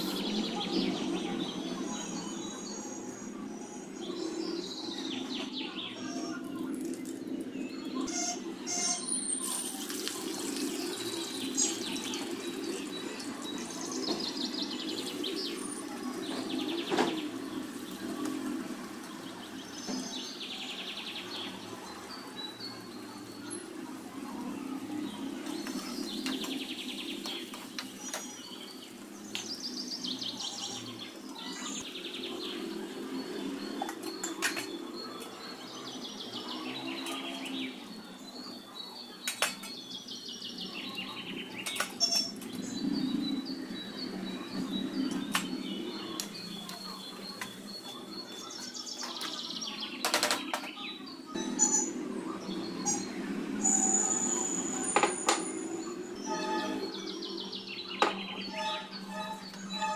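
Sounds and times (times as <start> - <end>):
birds chirping trills: 0.0 - 59.9.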